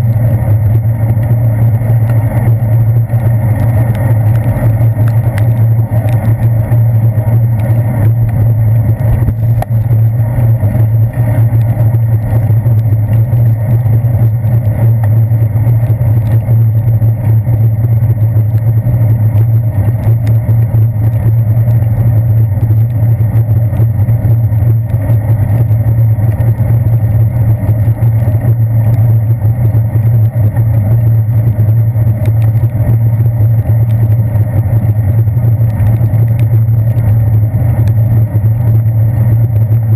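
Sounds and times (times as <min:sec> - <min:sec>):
wind rumble: 0:00.0 - 0:39.9.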